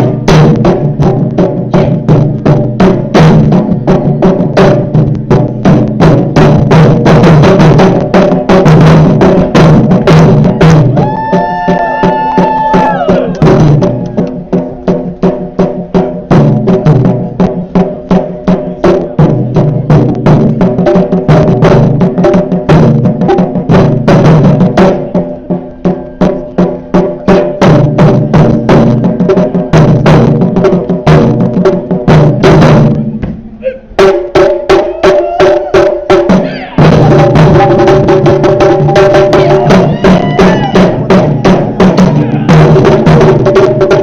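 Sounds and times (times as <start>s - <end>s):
taiko drums beating: 0.0s - 44.0s.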